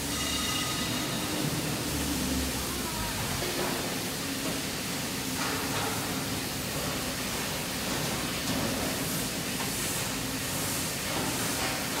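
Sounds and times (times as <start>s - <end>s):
factory hall hiss: 0.0s - 12.0s.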